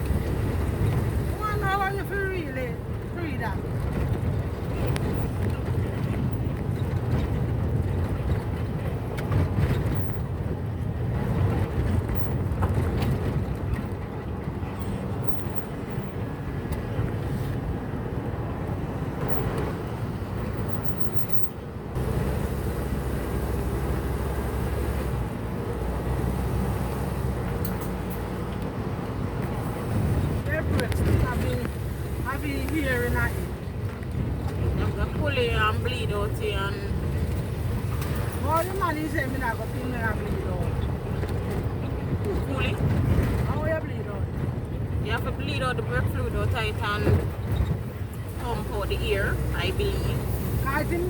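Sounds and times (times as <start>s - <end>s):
road and wind noise: 0.0s - 51.0s
vehicle engine rumble: 0.0s - 51.0s.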